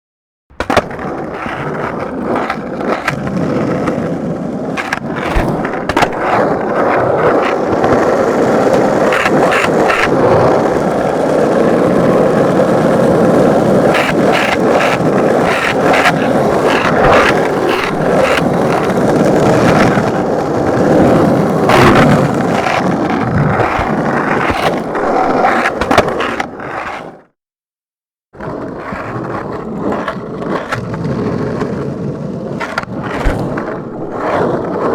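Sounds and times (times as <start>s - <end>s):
skateboard wheels rumbling: 0.5s - 27.2s, 28.4s - 34.9s
skateboard clicks and knocks: 0.5s - 27.3s, 28.4s - 34.9s.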